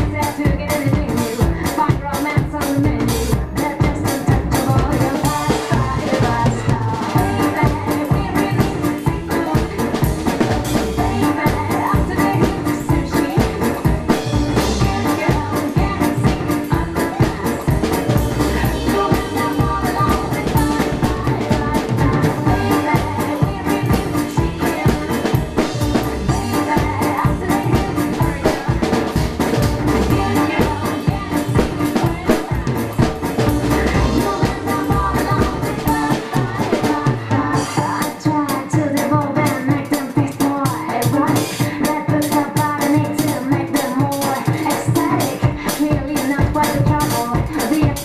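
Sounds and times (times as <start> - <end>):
drum kit played in swing style: 0.0 - 48.0
electro swing music: 0.0 - 48.0.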